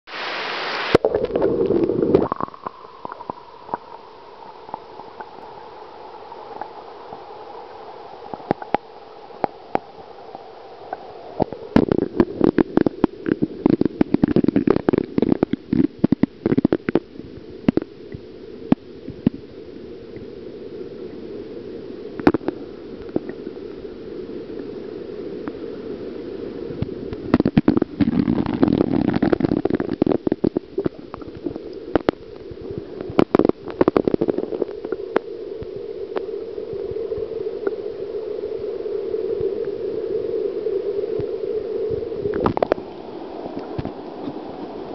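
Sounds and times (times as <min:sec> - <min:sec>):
muffled underwater river current: 0:00.1 - 0:44.9.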